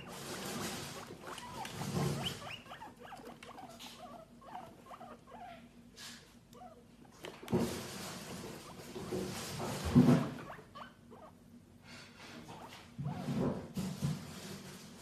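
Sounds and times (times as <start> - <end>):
guinea pigs squeaking: 0.0 - 11.4, 12.4 - 13.6.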